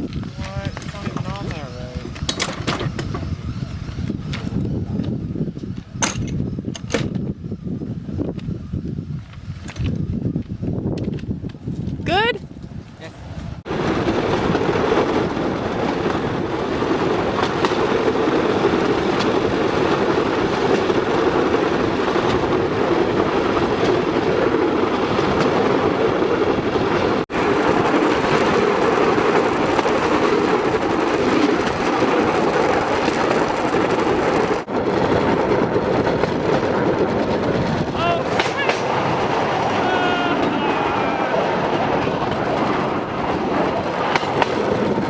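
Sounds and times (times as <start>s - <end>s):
train wheels rattling on rails: 0.0s - 7.3s, 13.6s - 45.0s.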